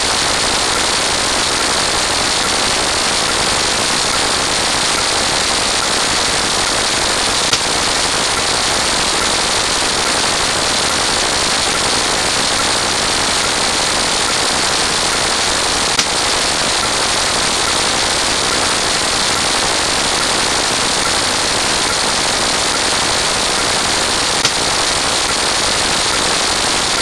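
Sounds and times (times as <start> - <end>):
sharp clicks: 0.0 - 27.0.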